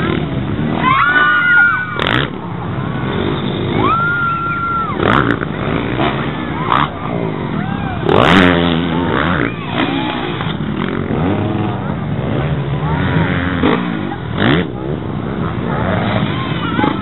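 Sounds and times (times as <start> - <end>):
dirt bike engines revving: 0.0 - 17.0
dirt bike passing close: 0.0 - 17.0.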